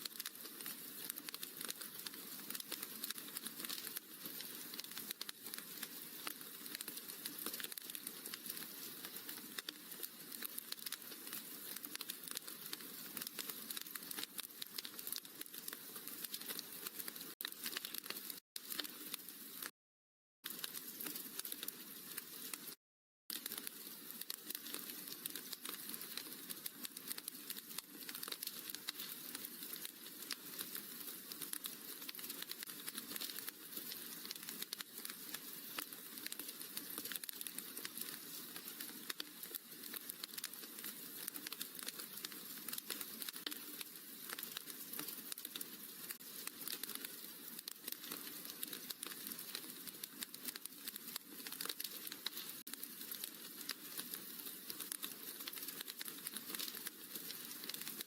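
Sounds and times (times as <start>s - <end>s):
wood fire crackling: 0.0s - 19.7s, 20.4s - 58.0s.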